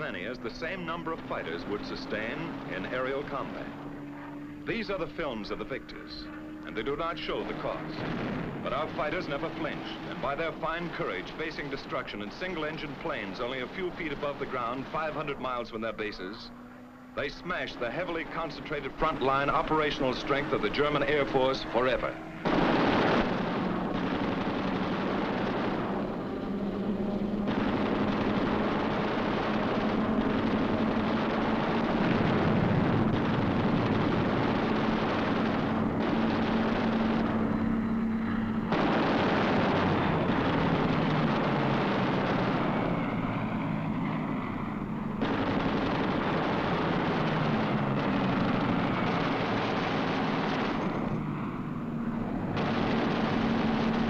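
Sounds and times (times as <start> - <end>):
aircraft engine drone: 0.0 - 54.0
machine-gun fire: 7.3 - 15.6, 17.3 - 43.8, 45.2 - 54.0.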